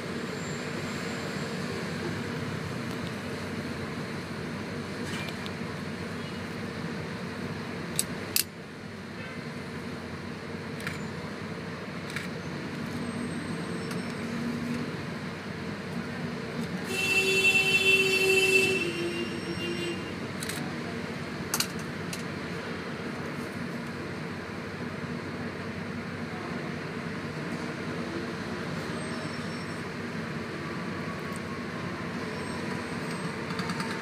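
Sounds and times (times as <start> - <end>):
city traffic engine and road noise: 0.0 - 34.0.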